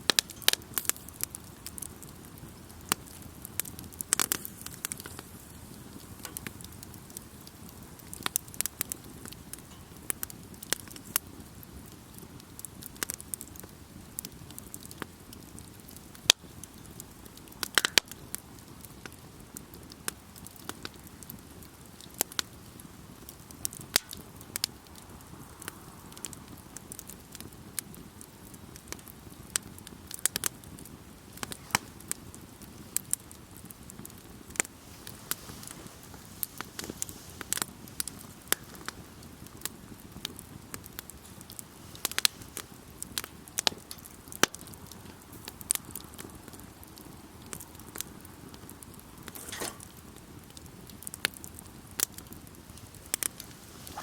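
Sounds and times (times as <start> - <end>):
campfire crackling and popping: 0.0 - 54.0
low hiss of burning: 0.0 - 54.0.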